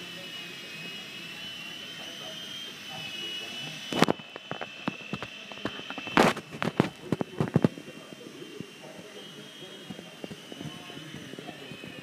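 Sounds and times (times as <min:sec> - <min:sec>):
electric rotor motor whining: 0:00.0 - 0:12.0.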